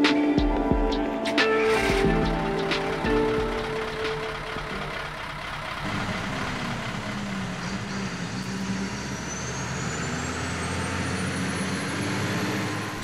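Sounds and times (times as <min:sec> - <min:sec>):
truck engine low note: 0:01.5 - 0:13.0
high whine rising in pitch: 0:01.6 - 0:13.0.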